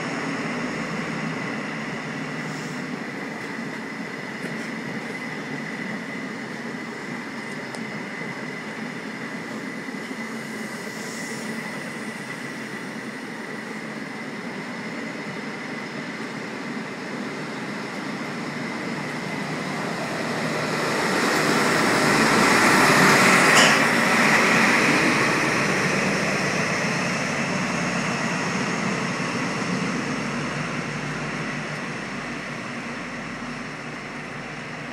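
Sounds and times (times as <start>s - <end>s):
diesel train engine under power: 0.0s - 34.9s
steady high whine: 0.0s - 34.9s
train wheels on rails: 0.0s - 34.9s.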